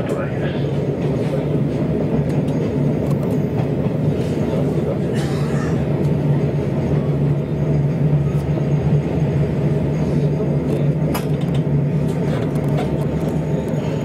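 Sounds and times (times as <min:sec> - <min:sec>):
railcar rumble and hum: 0:00.0 - 0:14.0.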